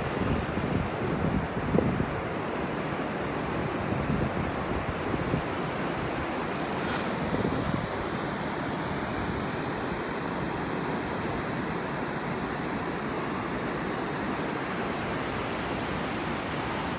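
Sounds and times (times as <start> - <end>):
ocean surf on beach: 0.0 - 16.9.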